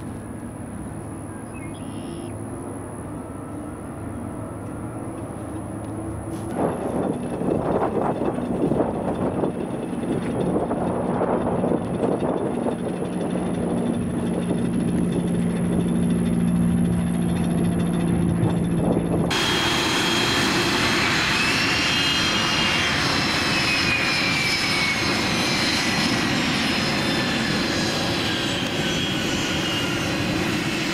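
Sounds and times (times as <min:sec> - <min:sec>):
jet engine hum and whine: 0:00.0 - 0:30.9.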